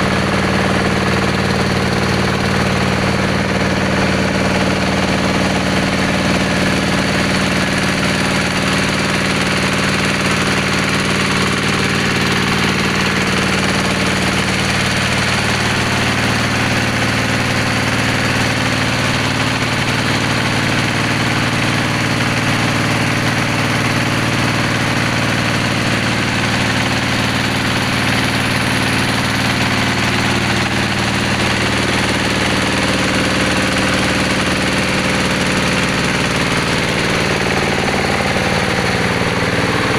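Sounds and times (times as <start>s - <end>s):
drilling machine engine running: 0.0s - 39.9s.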